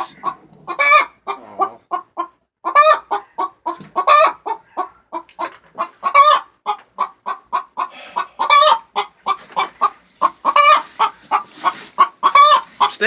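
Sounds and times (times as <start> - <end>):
hens clucking: 0.0 - 13.0
hens squawking: 0.0 - 13.0.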